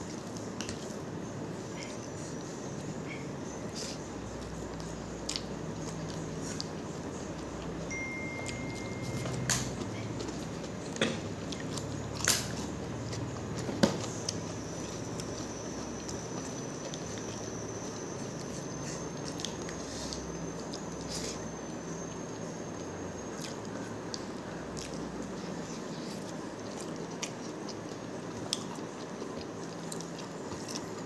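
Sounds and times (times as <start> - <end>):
chewing with wet mouth smacks: 1.8 - 7.8, 8.4 - 31.0.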